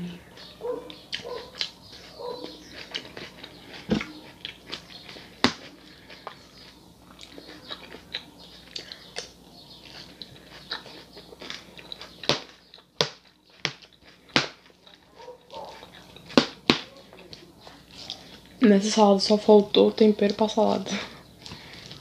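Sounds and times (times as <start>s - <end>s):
chewing crisp lettuce: 0.4s - 18.6s.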